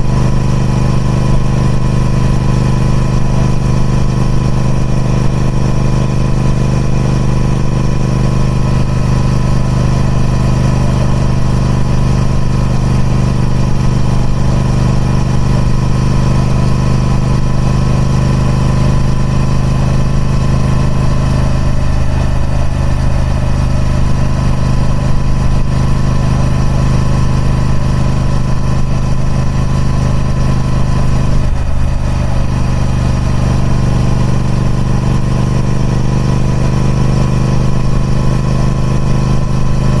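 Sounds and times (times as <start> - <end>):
motorcycle engine running steadily: 0.0 - 40.0.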